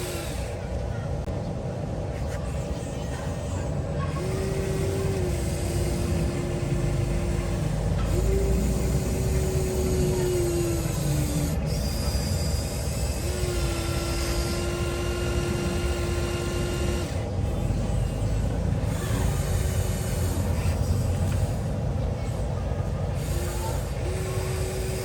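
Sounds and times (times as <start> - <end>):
electric motors whining: 0.0 - 1.3, 2.2 - 25.0.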